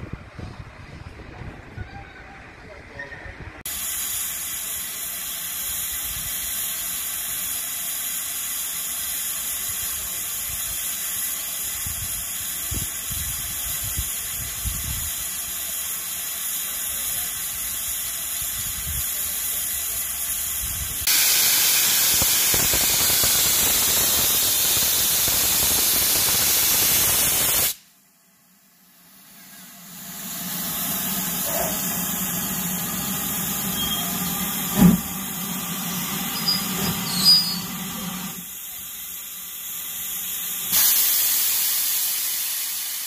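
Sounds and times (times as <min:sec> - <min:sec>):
steam locomotive hissing: 0:03.6 - 0:27.9, 0:28.9 - 0:43.0.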